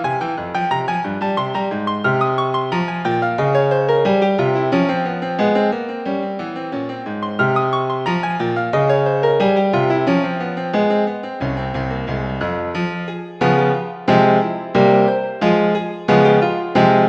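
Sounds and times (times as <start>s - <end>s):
classical piano music: 0.0s - 17.0s.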